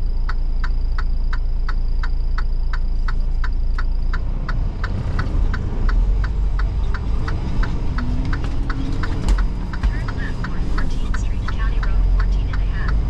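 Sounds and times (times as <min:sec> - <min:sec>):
truck diesel engine rumble: 0:00.0 - 0:13.0
turn signal clicking: 0:00.0 - 0:13.0.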